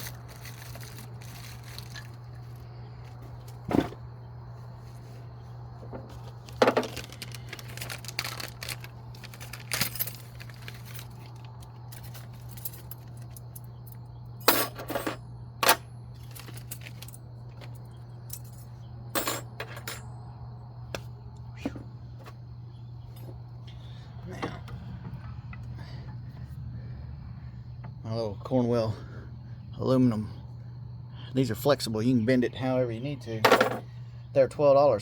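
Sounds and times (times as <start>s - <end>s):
low hum: 0.0s - 28.1s.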